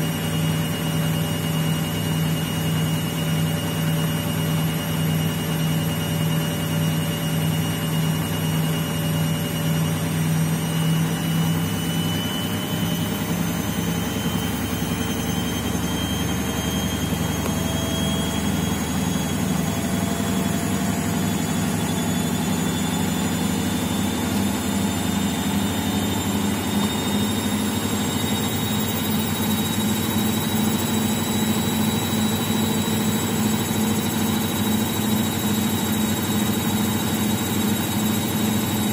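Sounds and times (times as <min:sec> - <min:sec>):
thin rising whine: 0:00.0 - 0:38.9
washing machine spinning: 0:00.0 - 0:38.9.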